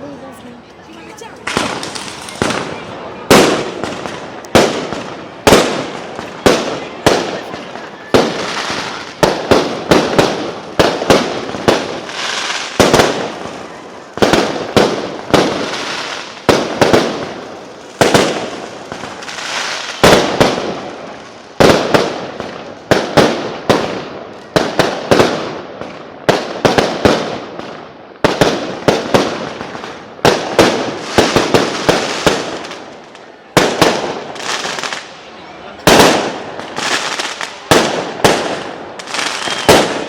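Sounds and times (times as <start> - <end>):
fireworks bangs and crackle: 0.0 - 40.0.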